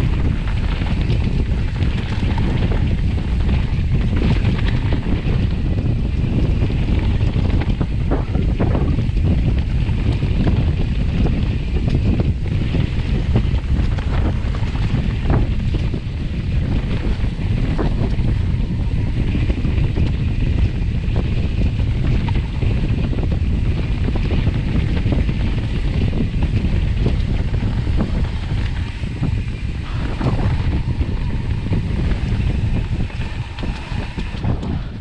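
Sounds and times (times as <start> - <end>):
bike knocks and rattles: 0.0 - 35.0
bike tyre rumble: 0.0 - 35.0
wind buffeting microphone: 0.0 - 35.0.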